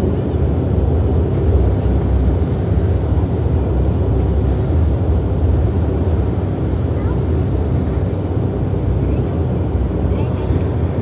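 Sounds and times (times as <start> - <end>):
turboprop engines rumbling: 0.0 - 11.0.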